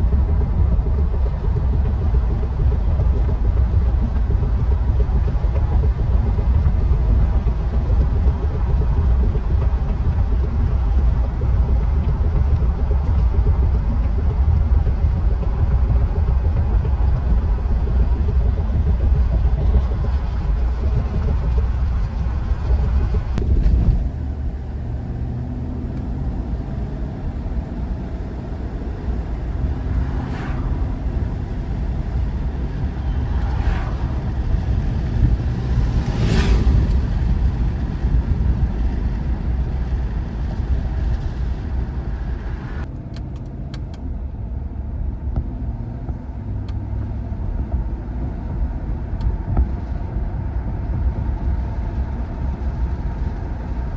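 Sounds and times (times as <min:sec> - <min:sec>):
road noise: 0:00.0 - 0:53.9
vehicle engine rumble: 0:00.0 - 0:53.9.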